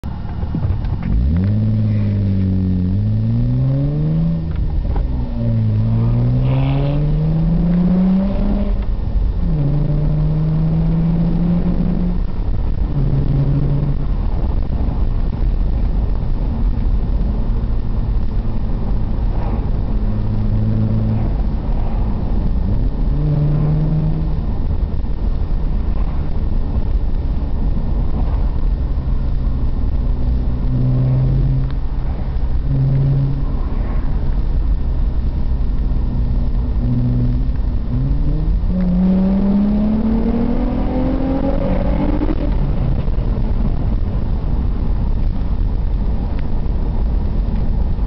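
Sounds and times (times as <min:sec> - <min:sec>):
car engine accelerating: 0:00.0 - 0:48.0
tyre and road rumble: 0:00.0 - 0:48.0.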